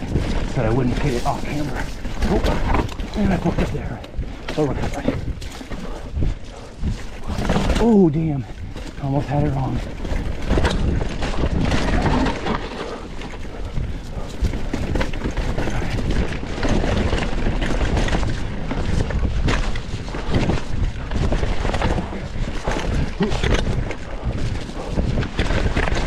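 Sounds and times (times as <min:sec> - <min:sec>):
bike knocking and rattling: 0:00.0 - 0:26.0
bike tyres rumbling on dirt: 0:00.0 - 0:26.0.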